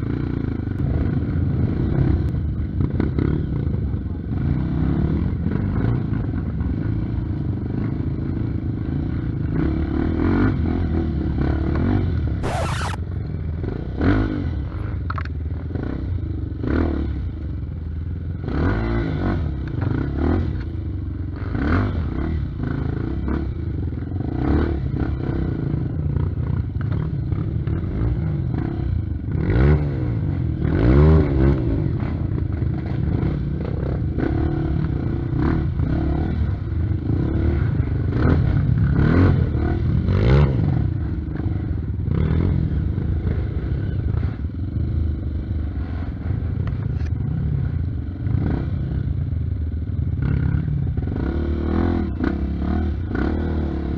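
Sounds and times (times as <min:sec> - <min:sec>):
motorcycle engine revving: 0:04.3 - 0:13.0, 0:13.6 - 0:53.9.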